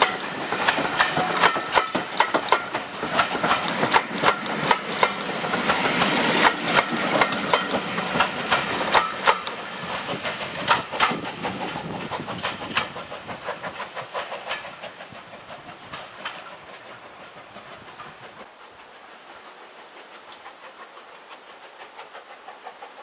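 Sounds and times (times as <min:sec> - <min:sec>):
train wheels clattering over rail joints: 0:00.0 - 0:23.0.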